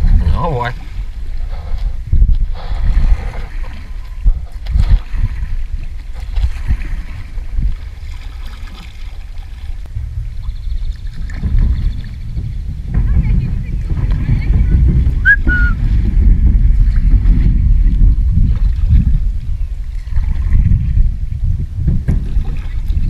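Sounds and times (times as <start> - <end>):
paddle strokes splashing: 0.0 - 21.4, 22.1 - 23.0
water sloshing along hull: 0.0 - 23.0
wind on microphone: 0.0 - 23.0.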